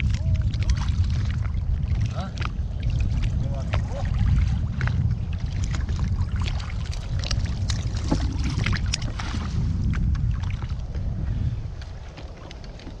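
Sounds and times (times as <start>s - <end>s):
water splashing against boat: 0.0s - 13.0s
wind on microphone: 0.0s - 13.0s.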